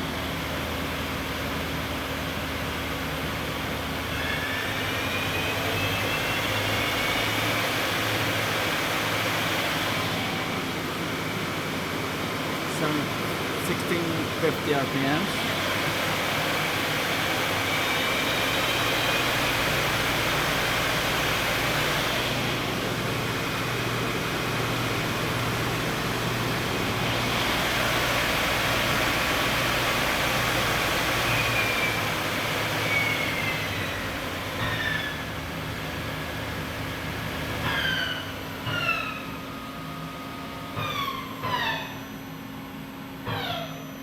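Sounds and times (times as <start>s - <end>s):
lathe spindle whirring: 0.4s - 42.9s.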